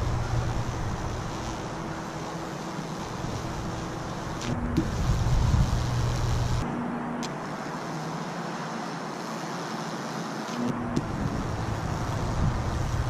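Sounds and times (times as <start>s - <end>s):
low electrical hum: 0.0s - 13.0s
sizzling hiss of burning wood: 0.0s - 13.0s.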